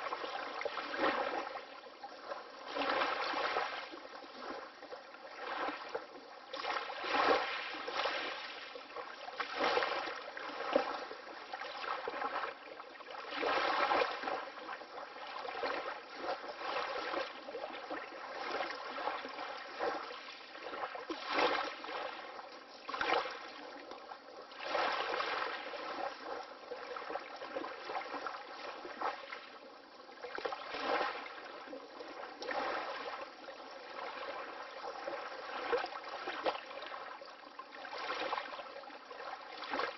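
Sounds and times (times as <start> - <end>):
water lapping: 0.0 - 39.9.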